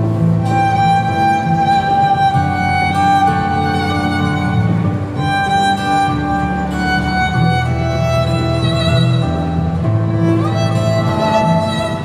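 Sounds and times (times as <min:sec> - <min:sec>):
low accompaniment: 0:00.0 - 0:12.0
solo violin slow melody: 0:00.0 - 0:12.0.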